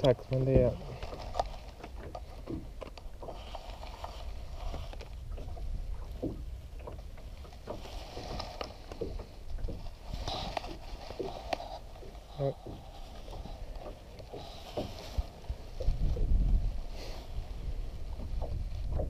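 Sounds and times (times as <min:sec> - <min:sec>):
faint knocks in boat: 0:00.0 - 0:16.7, 0:17.5 - 0:19.0
water slapping boat hull: 0:00.0 - 0:19.0
wind on microphone: 0:00.0 - 0:19.0.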